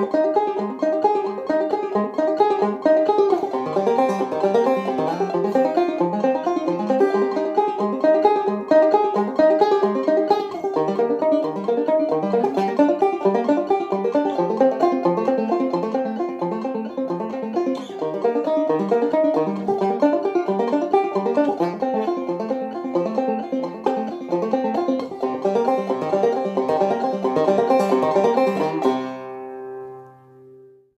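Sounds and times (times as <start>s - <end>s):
banjo picking: 0.0s - 30.9s.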